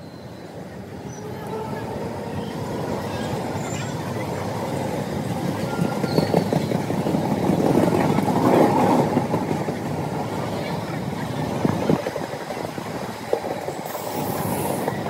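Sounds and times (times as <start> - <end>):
train wheels rumbling and rattling: 0.5 - 15.0.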